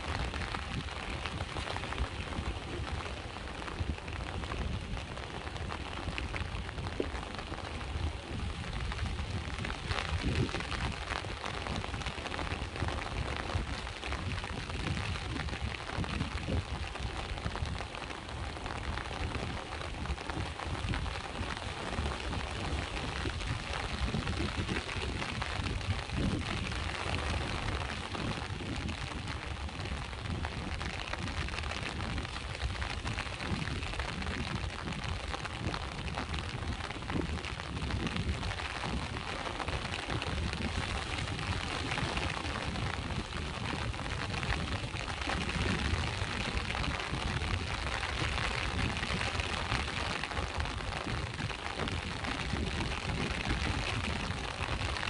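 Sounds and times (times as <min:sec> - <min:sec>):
rain falling: 0:00.0 - 0:55.0
sea waves rumbling: 0:00.0 - 0:55.0.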